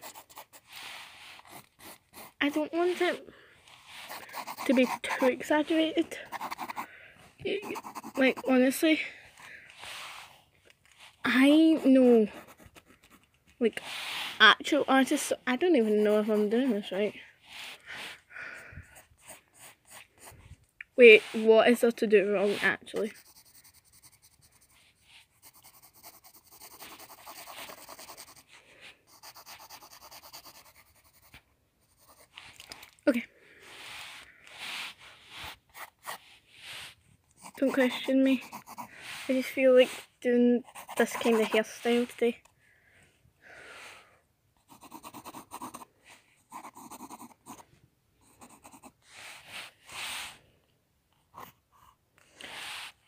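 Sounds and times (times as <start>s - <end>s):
pencil scratching on paper: 0.0s - 9.1s, 9.8s - 17.8s, 18.9s - 32.8s, 33.7s - 42.4s, 44.6s - 47.6s, 48.2s - 50.4s.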